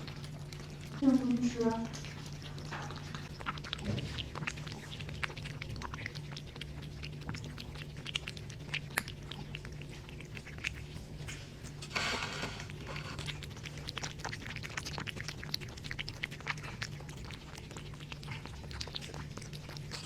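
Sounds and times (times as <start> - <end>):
cat chewing food: 0.0 - 20.0
low steady hum: 0.0 - 20.0.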